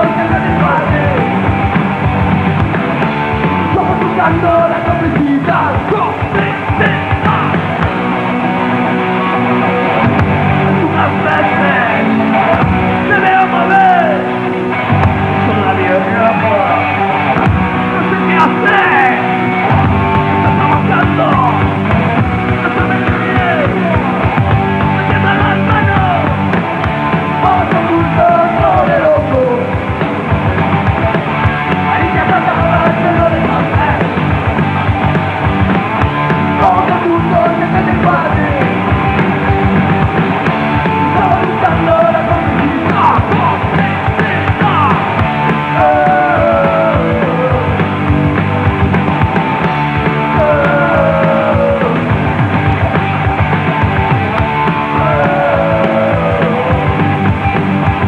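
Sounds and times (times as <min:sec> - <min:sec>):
distorted electric guitar: 0:00.0 - 0:58.0
drums: 0:00.0 - 0:58.0
punk rock band playing live: 0:00.0 - 0:58.0.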